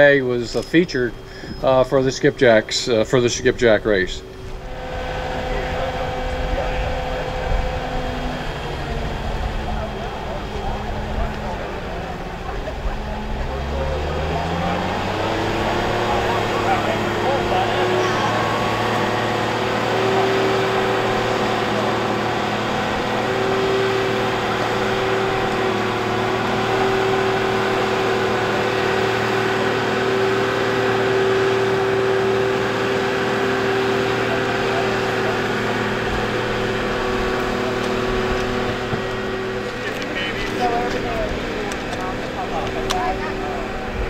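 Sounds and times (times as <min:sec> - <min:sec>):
boat hoist engine running: 0:00.0 - 0:44.0
steady whine: 0:00.0 - 0:44.0.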